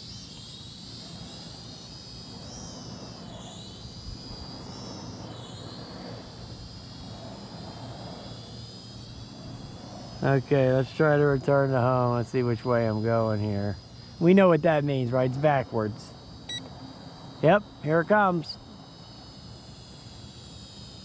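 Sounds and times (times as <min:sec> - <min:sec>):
drone propeller motors whining: 0:00.0 - 0:21.0.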